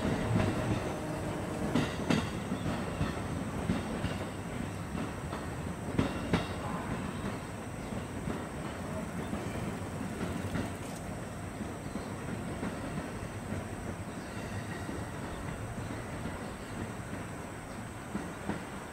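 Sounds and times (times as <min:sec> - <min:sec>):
faint rail clatter: 0:00.0 - 0:18.9
train rumbling along track: 0:00.0 - 0:18.9.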